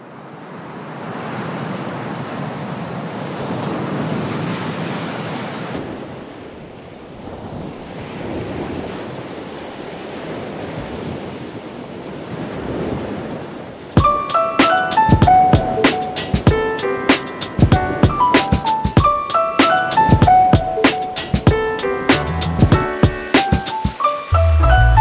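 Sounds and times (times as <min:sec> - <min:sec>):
ocean waves surging: 0:00.0 - 0:25.0.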